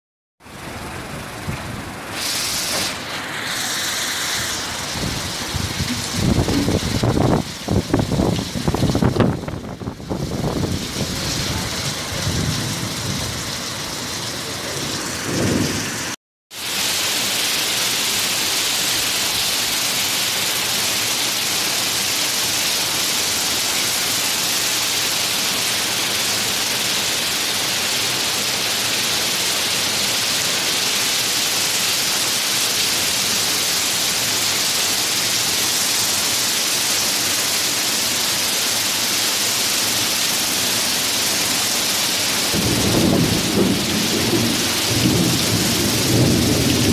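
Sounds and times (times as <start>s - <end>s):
heavy rain pouring: 0.4s - 46.9s.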